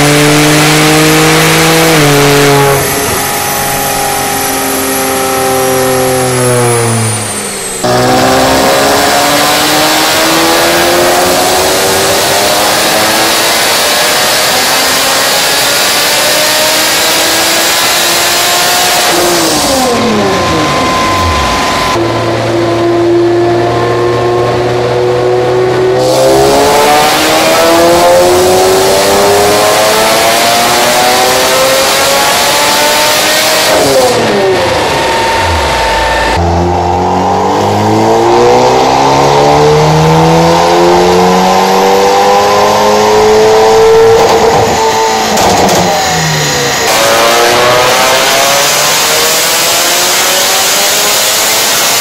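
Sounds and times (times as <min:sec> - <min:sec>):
car engine revving on dyno: 0:00.0 - 0:52.0.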